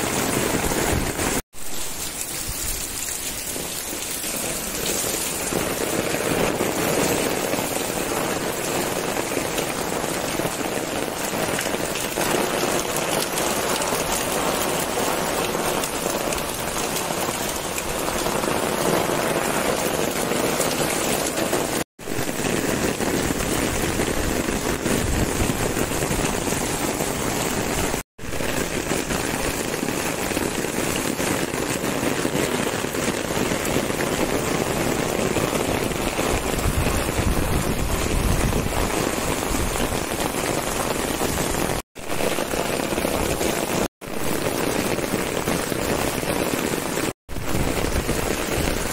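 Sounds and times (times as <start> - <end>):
heavy rain on concrete: 0.0 - 48.9.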